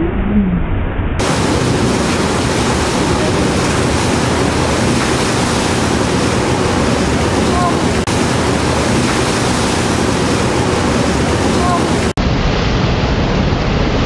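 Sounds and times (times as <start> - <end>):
boat wake water rushing: 1.2 - 14.0
wind buffeting microphone: 1.2 - 14.0.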